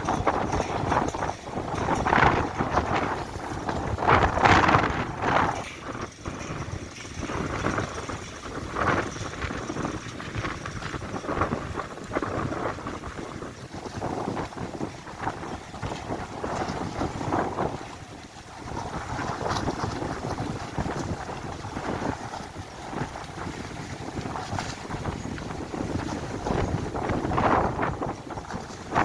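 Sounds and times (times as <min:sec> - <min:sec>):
storm wind buffeting microphone: 0:00.0 - 0:29.0.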